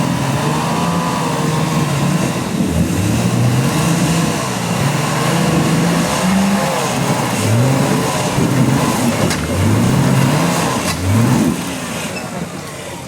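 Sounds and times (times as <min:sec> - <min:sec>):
off-road vehicle engine revving: 0:00.0 - 0:12.8.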